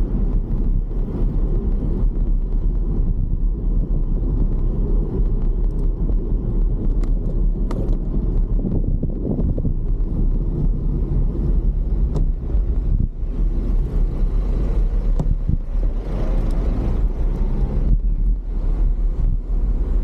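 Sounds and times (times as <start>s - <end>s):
road rumble: 0.0s - 20.0s
wind: 0.0s - 20.0s.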